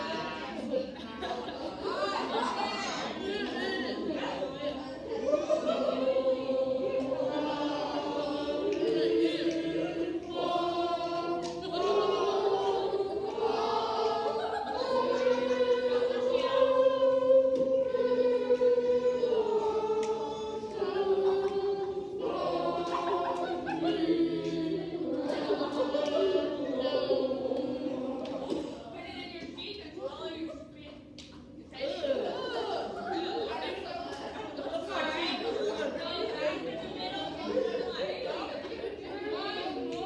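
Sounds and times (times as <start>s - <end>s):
youth choir singing: 0.0s - 29.8s, 31.8s - 40.0s.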